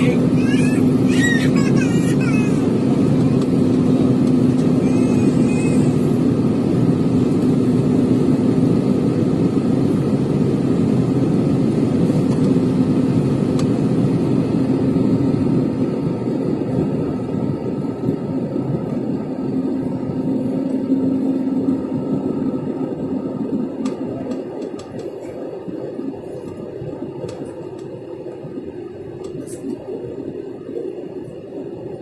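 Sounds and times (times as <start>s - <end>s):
vehicle rumble: 0.0s - 32.0s.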